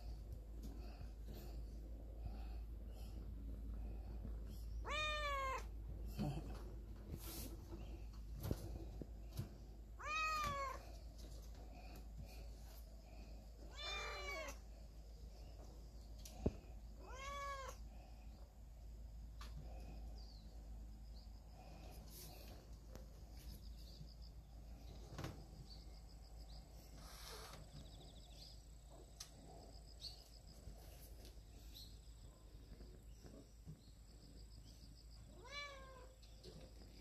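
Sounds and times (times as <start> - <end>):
faint room noise: 0.0 - 37.0.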